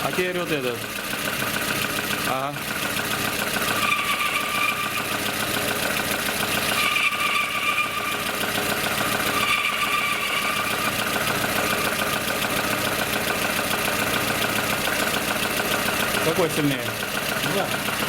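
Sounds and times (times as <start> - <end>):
car engine idling: 0.0 - 18.0
high-pitched belt pulley squeal: 0.8 - 18.0.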